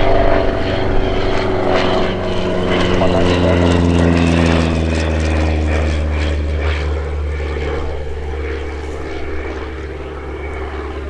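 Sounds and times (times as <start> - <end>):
light plane engine droning: 0.0 - 11.0.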